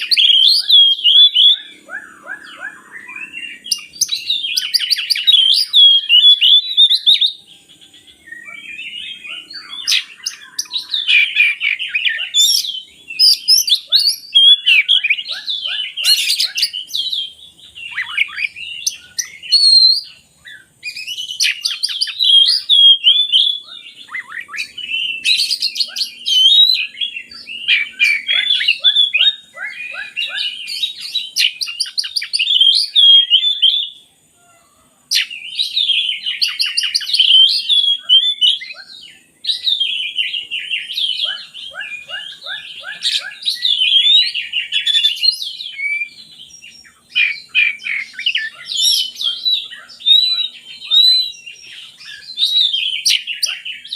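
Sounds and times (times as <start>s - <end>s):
bird singing whistled trills: 0.0s - 34.1s, 35.1s - 53.9s.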